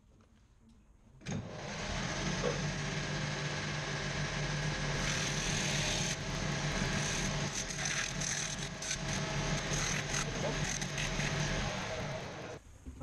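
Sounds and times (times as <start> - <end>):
sanding machine motor hum: 1.4 - 12.6.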